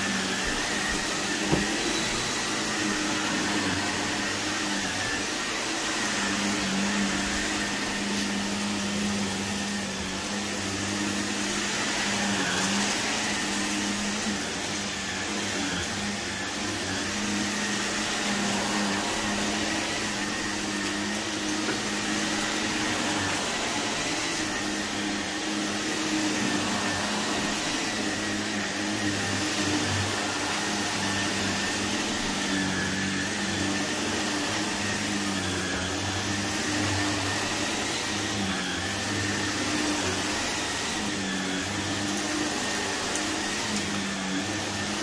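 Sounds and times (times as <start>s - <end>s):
vacuum cleaner on carpet: 0.0s - 45.0s.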